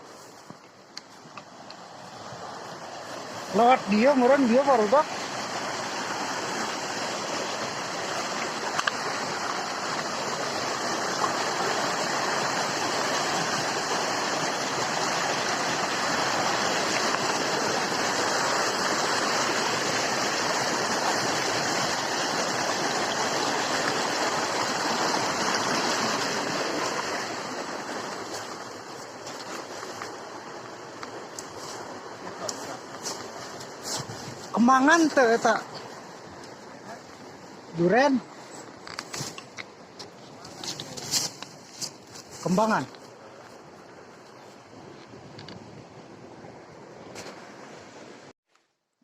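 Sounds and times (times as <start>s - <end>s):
flowing water rushing: 0.0s - 48.3s.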